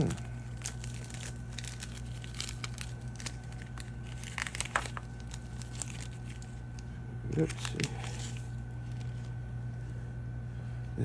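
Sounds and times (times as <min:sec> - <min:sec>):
material crinkling and rustling: 0:00.0 - 0:09.4
low electrical hum: 0:00.0 - 0:11.0.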